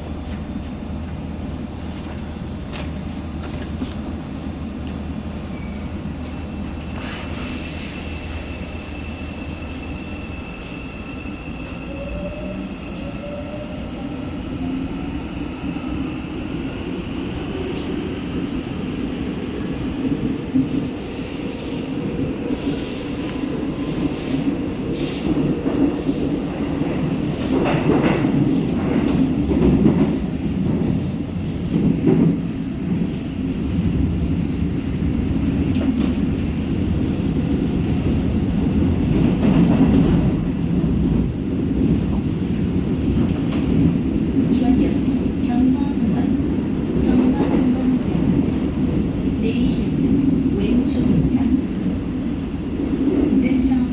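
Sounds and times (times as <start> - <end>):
wheels rumbling on rail: 0.0 - 53.9.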